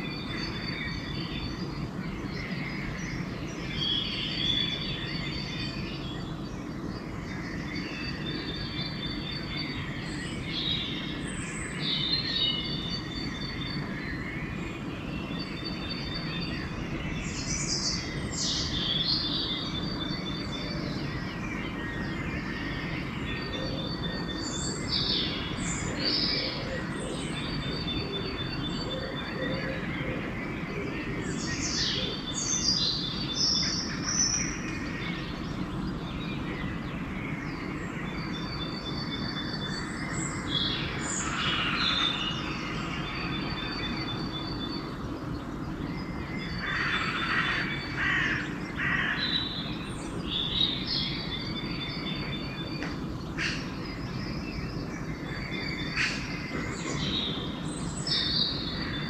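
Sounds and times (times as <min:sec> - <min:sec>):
birds chirping: 0:00.0 - 0:59.0
low background noise: 0:00.0 - 0:59.0.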